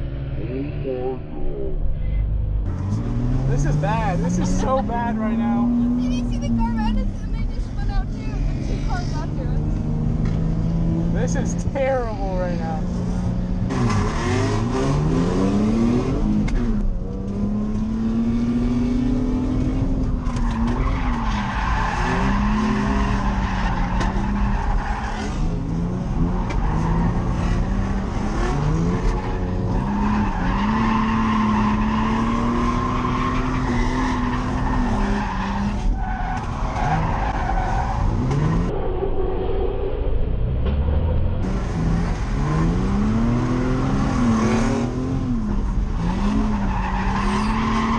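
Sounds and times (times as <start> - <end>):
car engine at high revs: 2.4 - 39.6, 40.5 - 47.9
tyres skidding: 2.7 - 39.2, 40.6 - 47.9.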